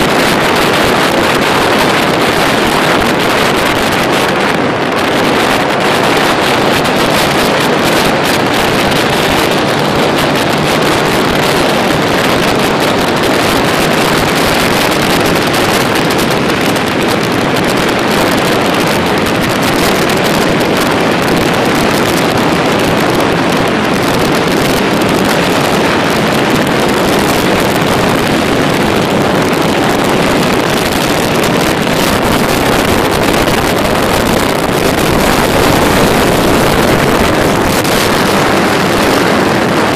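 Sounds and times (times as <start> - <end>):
motorcycle running: 0.0 - 39.9
wind rushing over microphone: 0.0 - 39.9.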